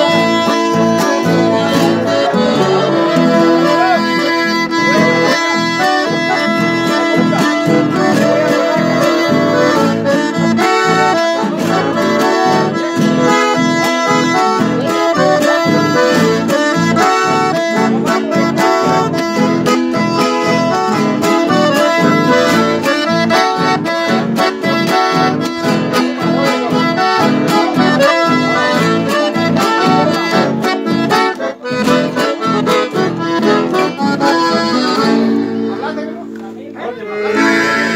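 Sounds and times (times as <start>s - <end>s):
piano accordion: 0.0s - 36.2s, 36.8s - 37.9s
acoustic guitars strumming: 0.0s - 37.9s.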